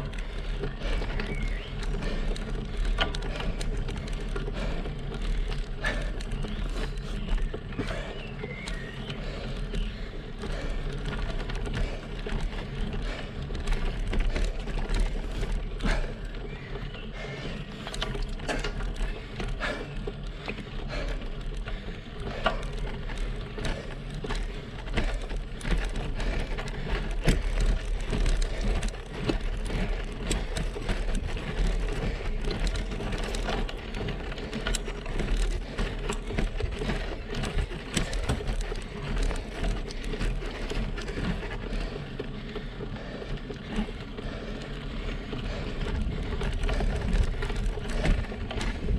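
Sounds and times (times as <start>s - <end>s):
bike rattles over bumps: 0.0s - 48.9s
steady low rumble: 0.0s - 48.9s
tyre and road noise: 0.0s - 48.9s.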